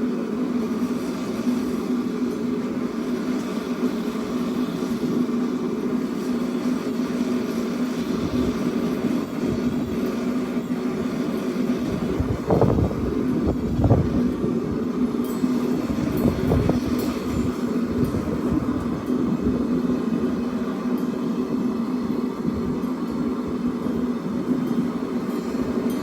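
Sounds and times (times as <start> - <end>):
forge burner humming: 0.0 - 26.0.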